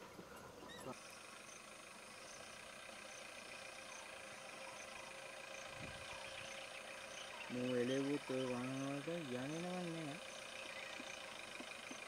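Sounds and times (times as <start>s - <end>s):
faint chirps: 0.0s - 12.0s
vehicle engines running faintly: 0.0s - 12.0s.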